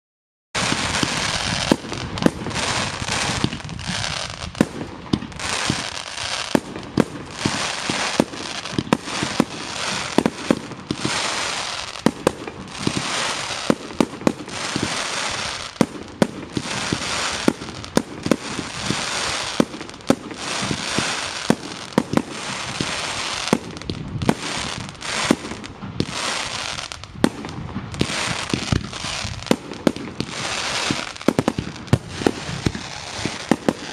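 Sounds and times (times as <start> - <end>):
fireworks crackling and banging: 0.6 - 33.9.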